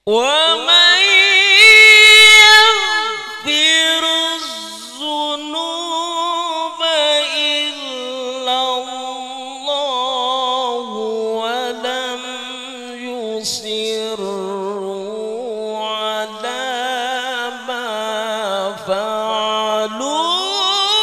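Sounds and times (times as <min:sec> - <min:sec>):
man chanting into a microphone: 0:00.0 - 0:21.0.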